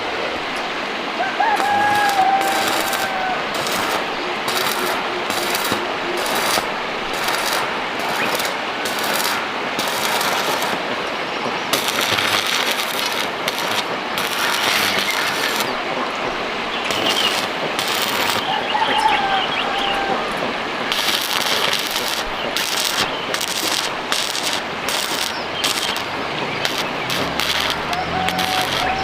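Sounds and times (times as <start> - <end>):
arc welding crackle: 1.5 - 16.2, 16.8 - 18.6, 20.8 - 29.0.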